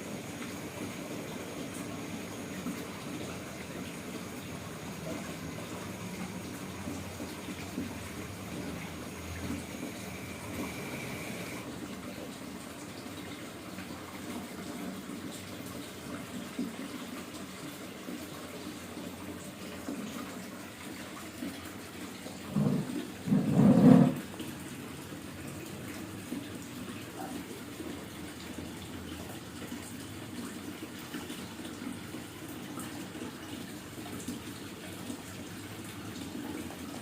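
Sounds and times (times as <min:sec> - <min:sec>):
water pouring and trickling: 0:00.0 - 0:37.0.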